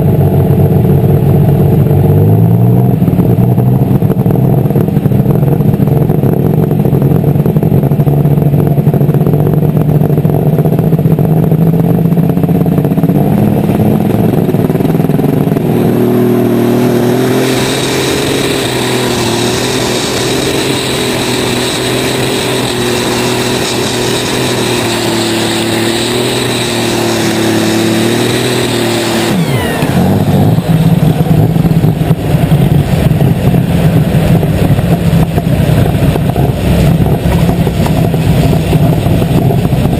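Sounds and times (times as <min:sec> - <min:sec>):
diesel tractor engine: 0:00.0 - 0:39.9
turbo whine: 0:00.0 - 0:39.9.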